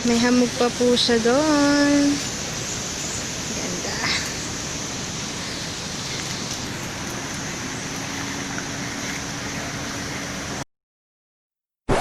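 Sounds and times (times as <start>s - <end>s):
waterfall rushing: 0.0s - 10.6s.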